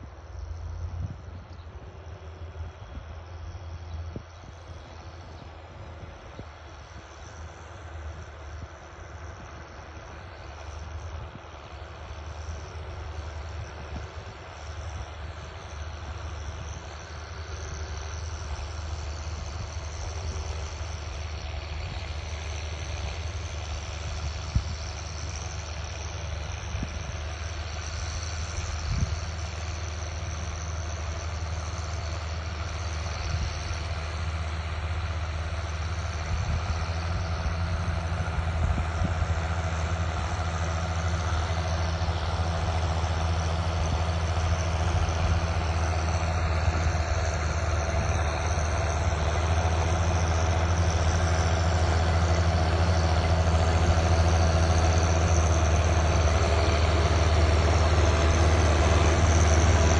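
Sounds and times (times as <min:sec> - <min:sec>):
tractor diesel engines droning: 0:00.0 - 0:59.9.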